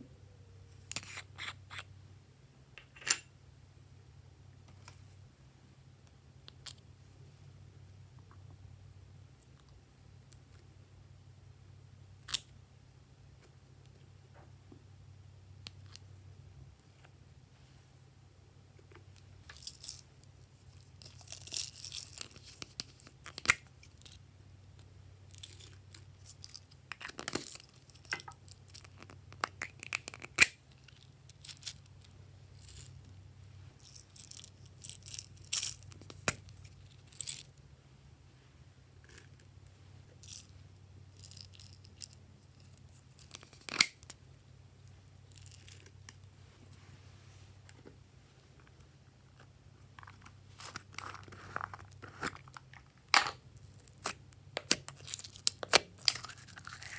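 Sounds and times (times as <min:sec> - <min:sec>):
faint low hum: 0:00.0 - 0:56.9.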